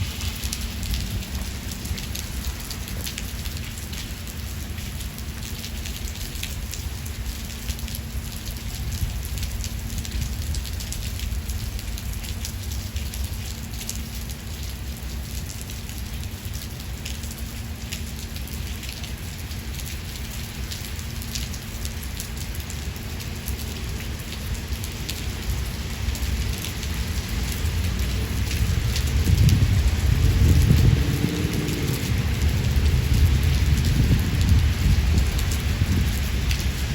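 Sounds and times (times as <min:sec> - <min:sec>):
heavy rain: 0:00.0 - 0:36.9.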